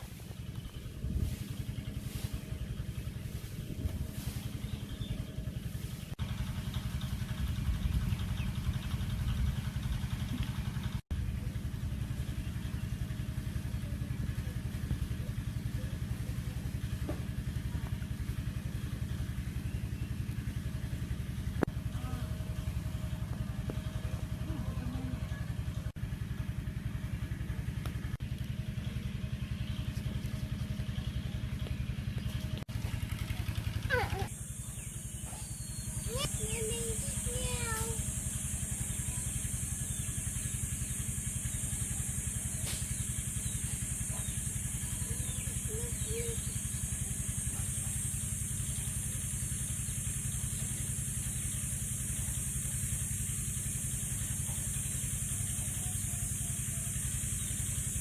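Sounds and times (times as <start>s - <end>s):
engine humming steadily: 0.0s - 58.0s.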